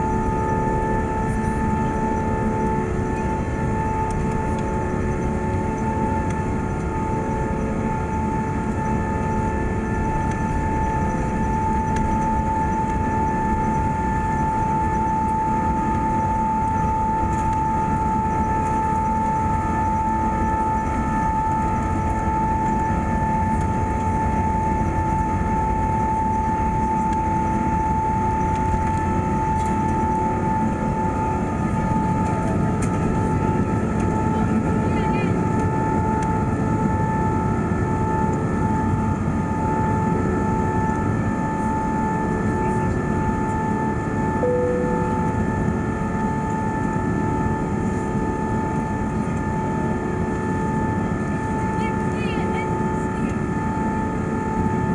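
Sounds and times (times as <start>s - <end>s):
jet engines rumbling in cabin: 0.0s - 54.9s
steady engine whine: 0.0s - 54.9s.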